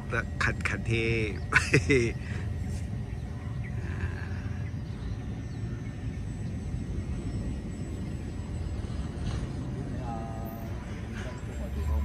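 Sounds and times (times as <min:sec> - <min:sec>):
model plane motor droning: 0:00.0 - 0:12.0.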